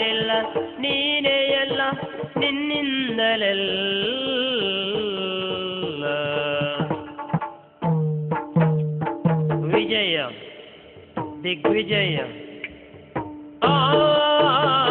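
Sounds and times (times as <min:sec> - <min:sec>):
drum strokes: 0:00.0 - 0:14.9.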